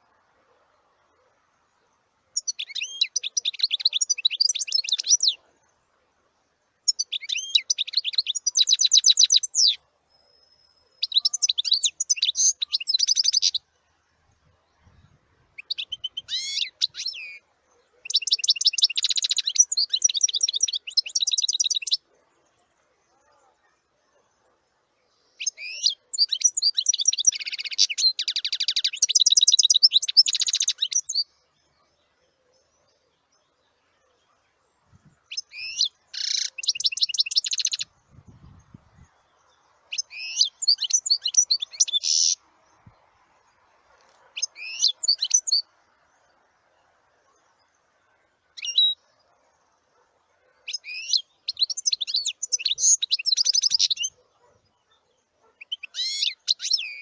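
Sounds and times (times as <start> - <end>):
songbird twittering and trilling: 1.0 - 5.8, 6.8 - 57.0.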